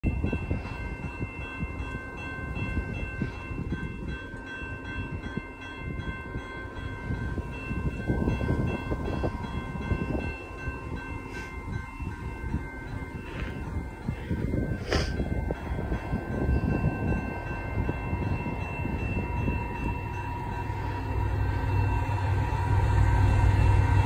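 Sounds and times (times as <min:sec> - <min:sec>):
gusty low rumble: 0:00.0 - 0:24.0
railroad crossing bell ringing: 0:00.0 - 0:24.0.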